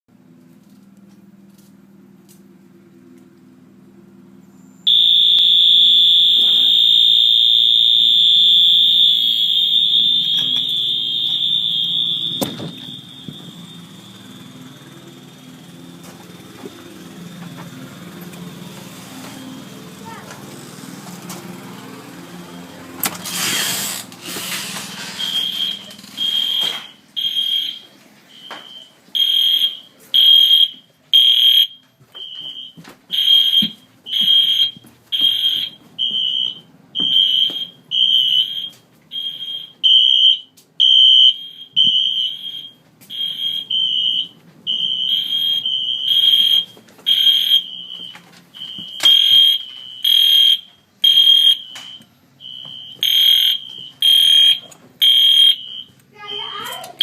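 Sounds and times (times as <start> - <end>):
fire alarm beeping: 4.8 - 18.2, 22.4 - 22.9, 24.6 - 57.0.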